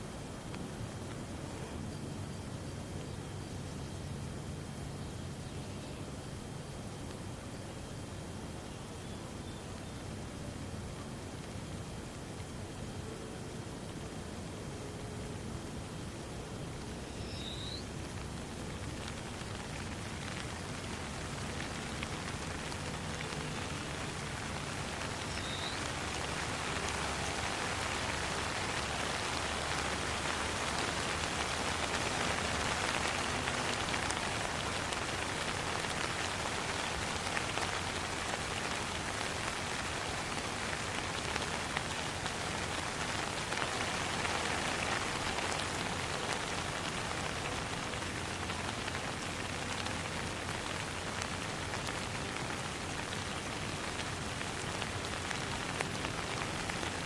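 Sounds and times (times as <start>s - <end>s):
rain falling on a pond: 0.0s - 57.0s.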